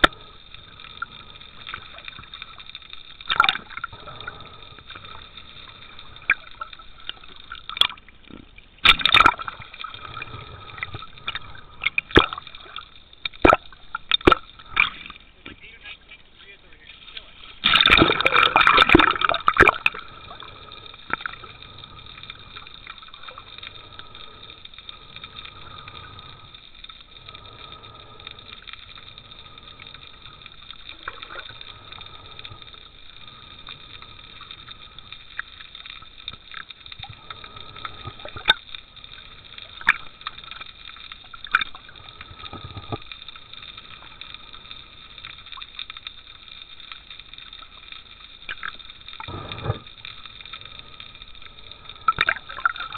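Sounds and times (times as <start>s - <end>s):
sharp underwater clicks: 0.0s - 15.6s, 16.9s - 52.9s
faint steady whine: 0.0s - 52.9s
muffled underwater ambience: 0.0s - 52.9s
water splashing: 0.0s - 52.9s.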